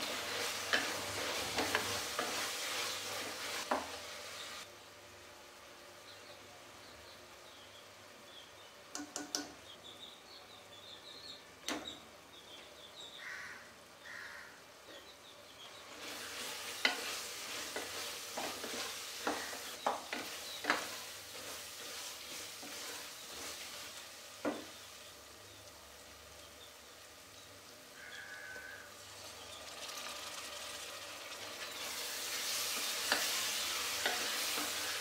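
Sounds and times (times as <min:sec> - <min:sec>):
masala sizzling in a pot: 0:00.0 - 0:09.5, 0:15.4 - 0:35.0.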